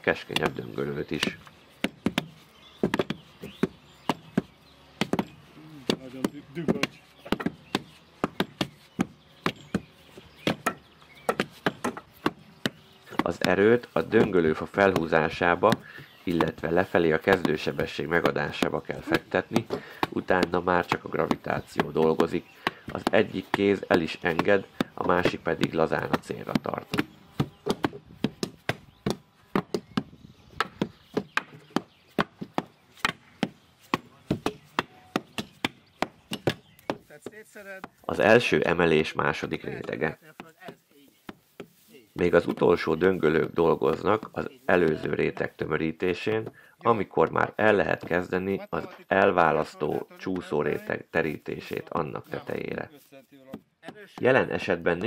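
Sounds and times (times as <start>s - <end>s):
wooden rammers knocking on earth: 0.1s - 46.6s, 49.5s - 52.9s, 53.5s - 55.0s.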